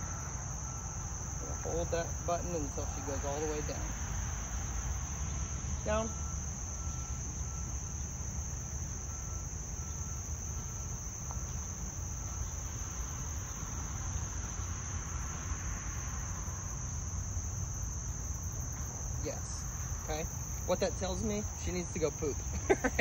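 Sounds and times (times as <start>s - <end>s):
high-pitched insect drone: 0.0s - 23.0s
trucks rumbling past: 0.0s - 23.0s.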